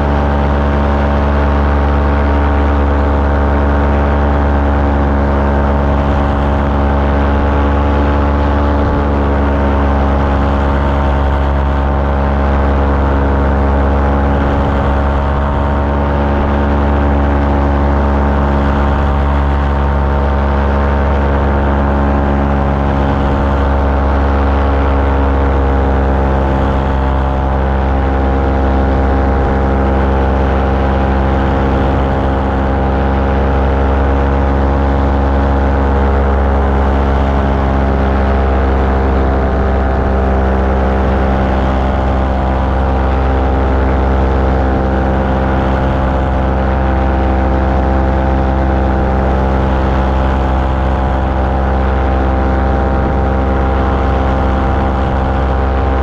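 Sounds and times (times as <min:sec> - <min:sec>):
small aircraft engine in flight: 0:00.0 - 0:56.0.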